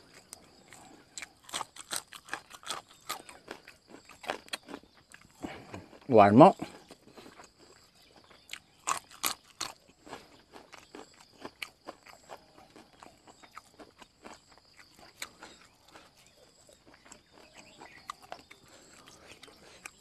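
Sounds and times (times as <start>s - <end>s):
crisp chewing crunches: 0.0s - 20.0s
soft chewing clicks: 0.0s - 20.0s.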